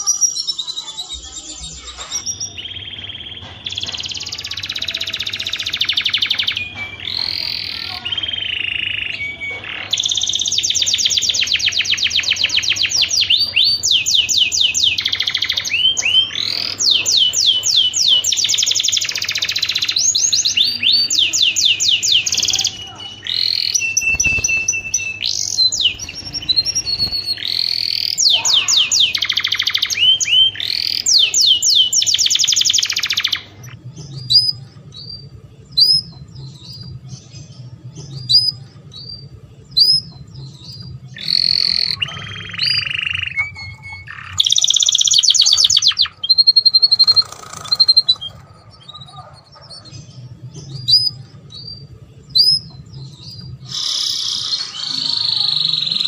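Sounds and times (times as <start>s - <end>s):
canary chirps: 0.0s - 56.0s
canary singing trills: 0.0s - 56.0s.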